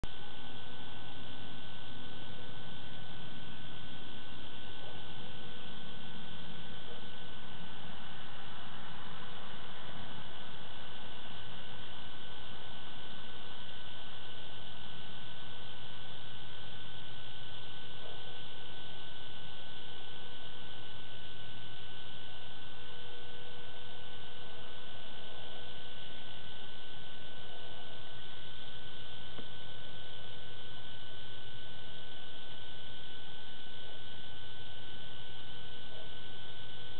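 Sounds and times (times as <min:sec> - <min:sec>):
constant high-pitched whine: 0:00.0 - 0:36.9
electronic hiss and hum: 0:00.0 - 0:36.9.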